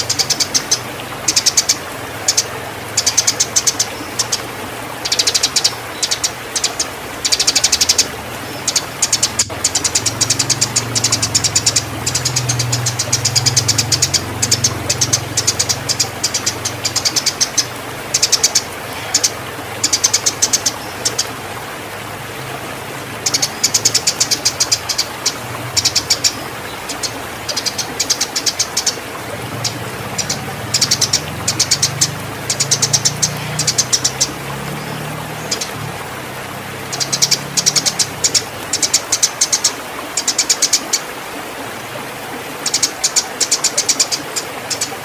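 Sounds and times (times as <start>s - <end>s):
sparrows chirping in rapid bursts: 0.0s - 21.3s, 23.2s - 36.0s, 36.6s - 40.9s, 42.6s - 45.0s.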